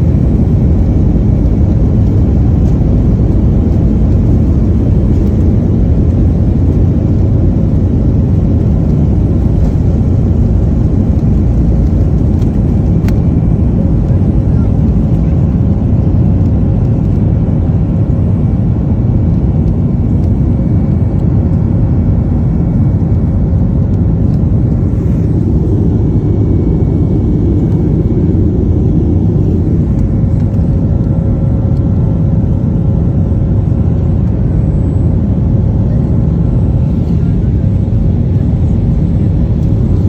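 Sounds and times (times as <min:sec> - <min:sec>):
jet engines and airflow rush: 0:00.0 - 0:40.0.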